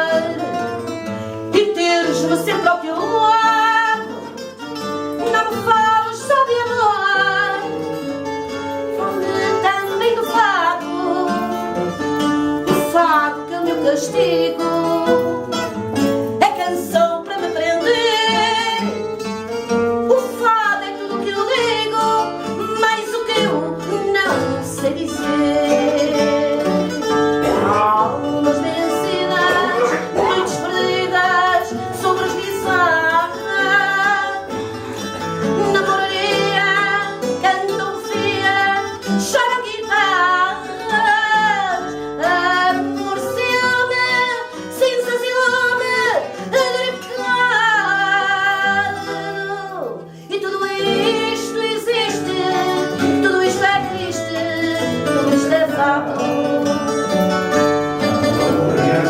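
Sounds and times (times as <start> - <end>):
woman singing with vibrato: 0.0 - 0.7, 1.5 - 4.4, 5.2 - 7.9, 8.9 - 11.7, 12.6 - 15.6, 16.4 - 19.0, 20.1 - 57.1
plucked guitars: 0.0 - 59.0.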